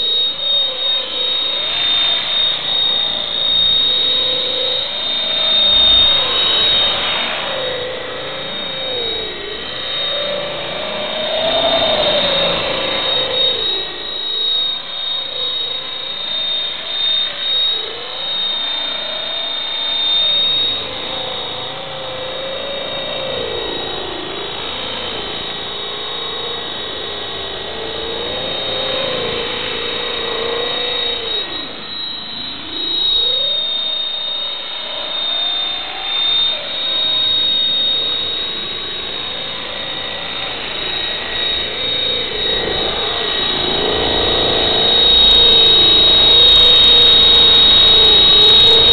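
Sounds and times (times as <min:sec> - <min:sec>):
helicopter rotor buzz: 0:00.0 - 0:48.9
high motor whine: 0:00.0 - 0:48.9.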